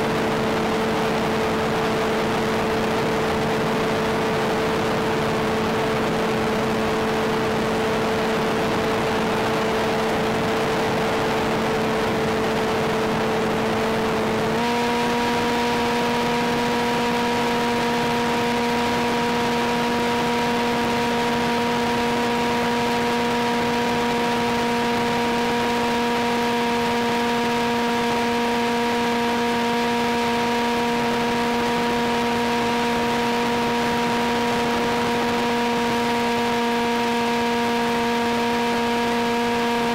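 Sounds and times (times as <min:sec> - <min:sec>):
electric motor and propeller humming: 0:00.0 - 0:39.9.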